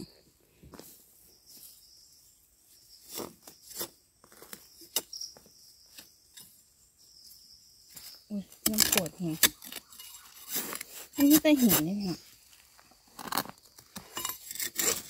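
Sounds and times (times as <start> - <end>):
faint high insect trill: 1.2 - 14.6.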